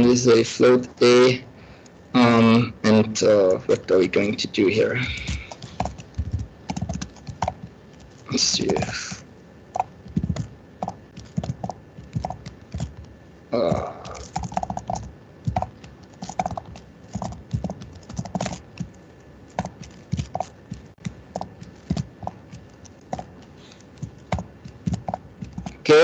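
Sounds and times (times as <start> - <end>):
computer keyboard typing: 3.7 - 26.0.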